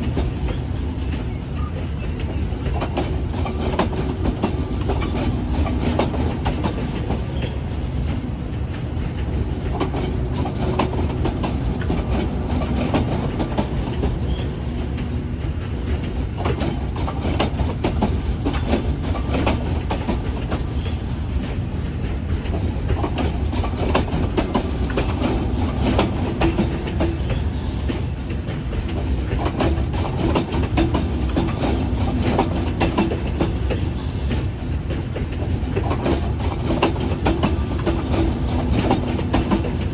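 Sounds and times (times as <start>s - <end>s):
train rumbling on rails: 0.0s - 39.9s
wheels clicking over rail joints: 0.0s - 39.9s.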